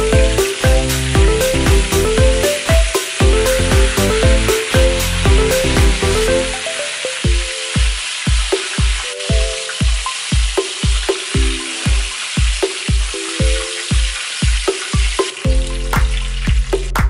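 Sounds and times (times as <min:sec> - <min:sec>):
background music with drum beat: 0:00.0 - 0:17.0
chicken sizzling in hot oil: 0:00.0 - 0:17.0.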